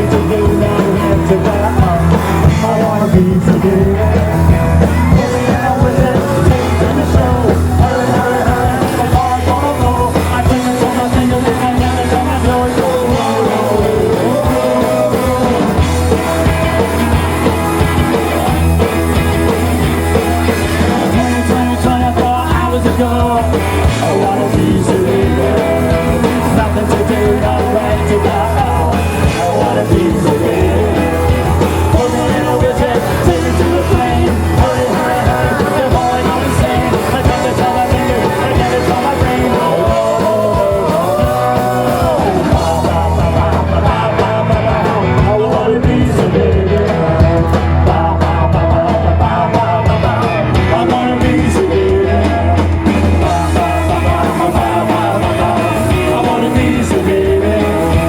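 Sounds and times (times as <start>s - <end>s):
driving bass: 0.0s - 58.0s
live punk rock band: 0.0s - 58.0s
sung lead vocal: 0.0s - 58.0s.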